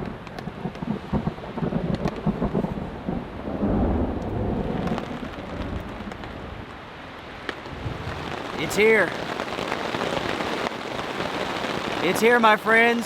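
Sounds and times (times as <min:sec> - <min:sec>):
thunder rumbling: 0:00.0 - 0:12.2
heavy rain on a tarp: 0:00.0 - 0:13.0.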